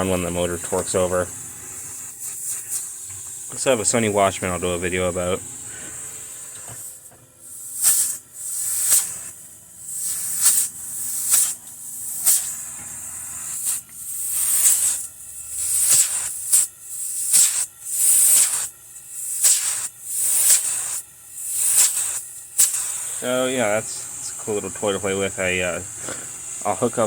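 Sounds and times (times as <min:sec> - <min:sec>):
air hissing in bursts: 0:00.0 - 0:27.0
faint motor hum: 0:00.0 - 0:27.0.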